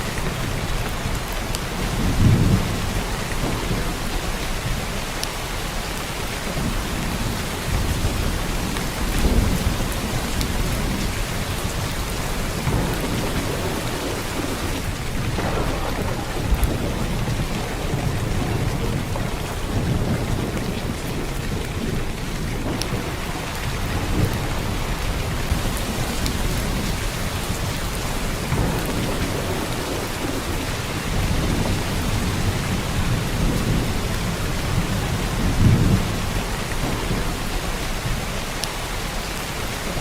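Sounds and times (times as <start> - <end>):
heavy rain hissing: 0.0 - 40.0
low thunder rumbles: 0.0 - 40.0.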